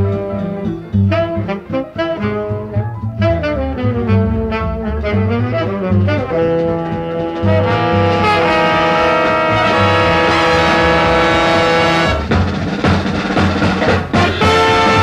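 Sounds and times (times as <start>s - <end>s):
big band jazz brass and saxophones: 0.0s - 15.0s.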